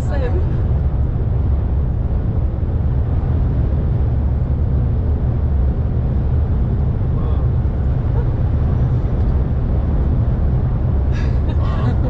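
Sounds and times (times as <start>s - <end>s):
truck cab road rumble: 0.0s - 12.0s.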